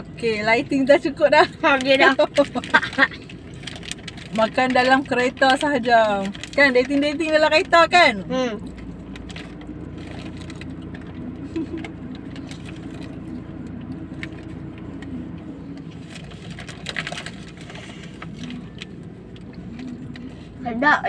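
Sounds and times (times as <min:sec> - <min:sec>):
car engine idling: 0:00.0 - 0:21.0
plastic wrapper rustling: 0:01.4 - 0:08.0, 0:08.6 - 0:20.3.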